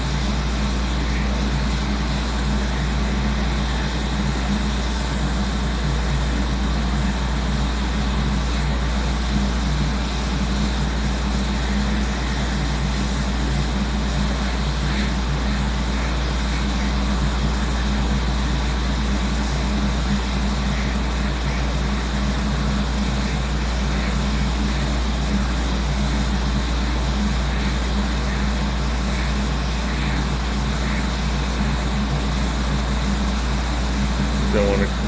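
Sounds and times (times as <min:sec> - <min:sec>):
hot-air rework station blowing: 0:00.0 - 0:35.0.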